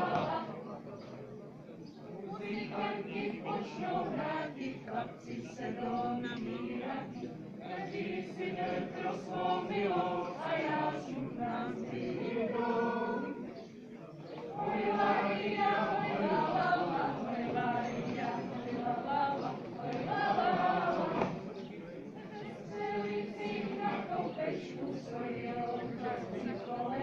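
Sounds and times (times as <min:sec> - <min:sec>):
group singing unaccompanied: 0:00.0 - 0:00.8, 0:02.2 - 0:27.0.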